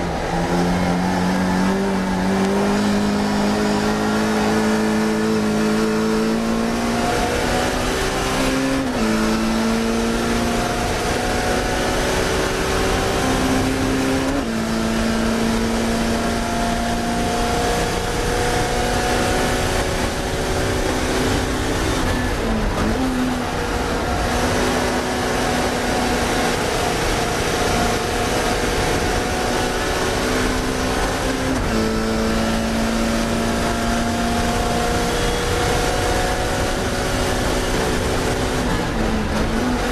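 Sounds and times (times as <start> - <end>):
race car engine revving hard: 0.0 - 39.9.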